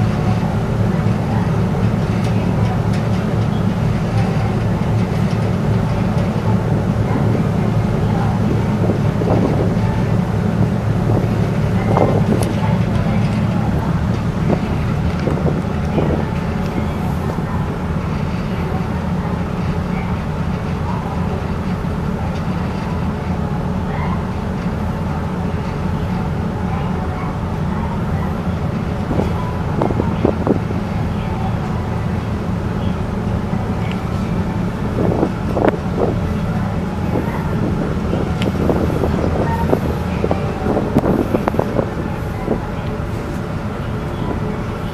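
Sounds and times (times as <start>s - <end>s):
ship engines low rumble: 0.0s - 44.9s.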